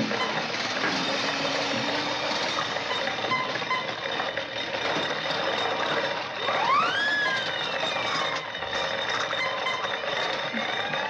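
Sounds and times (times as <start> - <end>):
hissy mechanical clatter: 0.0 - 11.0
sliding whistle: 0.1 - 4.4, 5.0 - 11.0.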